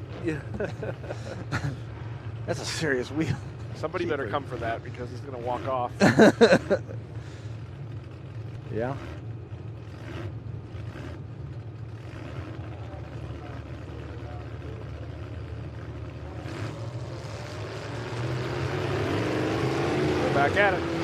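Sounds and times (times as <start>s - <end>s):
truck engines rumbling: 0.0s - 21.0s.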